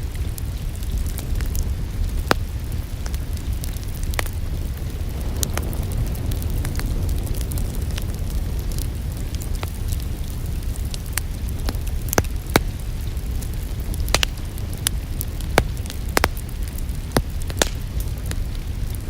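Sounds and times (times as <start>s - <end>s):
low rumble of flames: 0.0s - 19.0s
rain hissing: 0.0s - 19.0s
wood fire crackling and popping: 0.0s - 19.0s.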